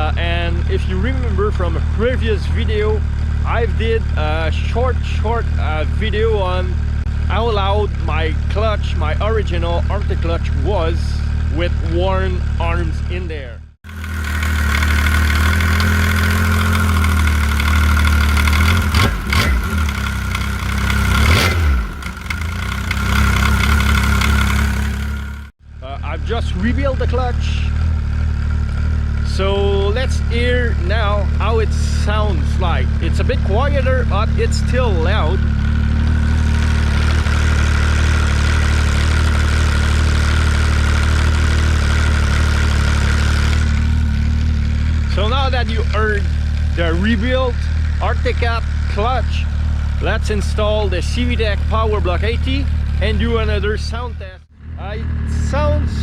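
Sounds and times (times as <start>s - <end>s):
engine throttle blips: 0.0s - 56.0s
loud clutch noise: 0.0s - 56.0s
snowmobile engine idling: 0.0s - 56.0s.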